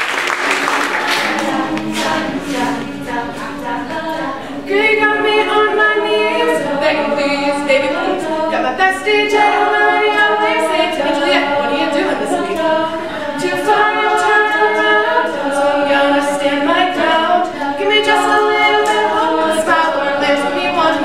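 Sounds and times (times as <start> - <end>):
girls singing a cappella: 0.6 - 21.0.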